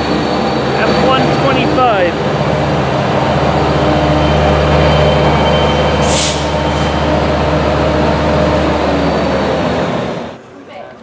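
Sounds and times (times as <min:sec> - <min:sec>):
diesel locomotive engine droning: 0:00.0 - 0:10.7.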